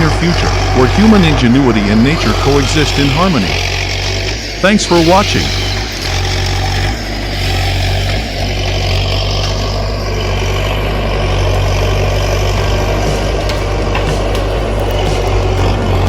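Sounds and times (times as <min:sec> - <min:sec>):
heavy machinery engine drone: 0:00.0 - 0:16.0.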